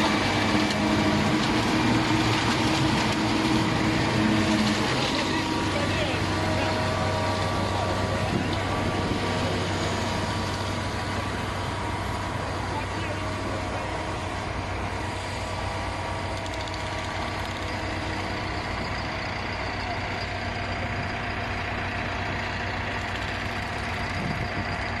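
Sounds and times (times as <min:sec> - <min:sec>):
concrete mixer diesel engine: 0:00.0 - 0:25.0.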